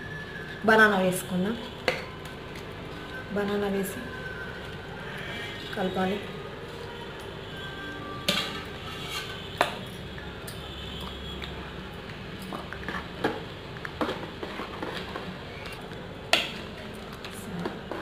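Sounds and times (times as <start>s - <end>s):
metal spoon stirring in pot: 0.3s - 18.0s.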